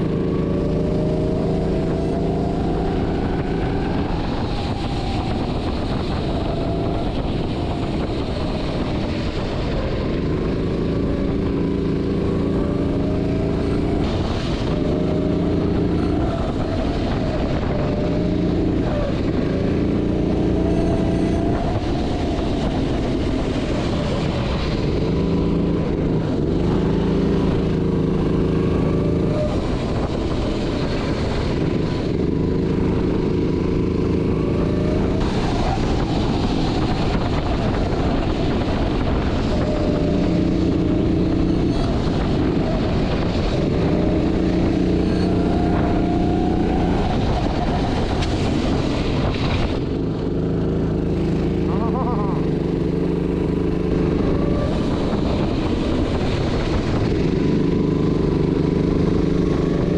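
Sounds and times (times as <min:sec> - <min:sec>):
go-kart engine revving: 0:00.0 - 0:59.9
tyre noise on wet track: 0:00.0 - 0:59.9.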